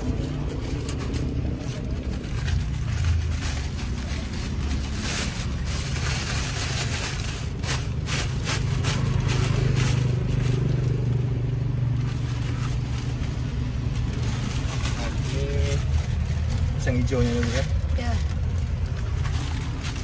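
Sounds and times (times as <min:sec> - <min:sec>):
low engine hum: 0:00.0 - 0:20.0
plastic bag crinkling: 0:00.0 - 0:20.0.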